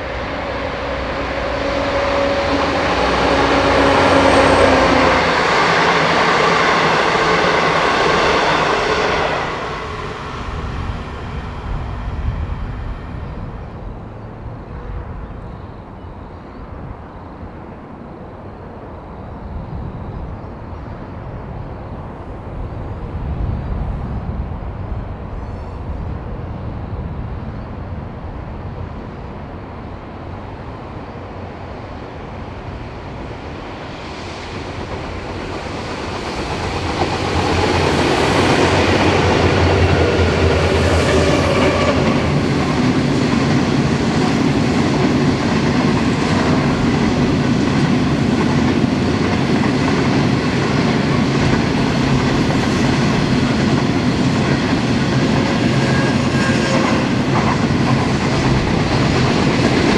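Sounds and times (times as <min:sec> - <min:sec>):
diesel locomotives passing: 0:00.0 - 0:59.9.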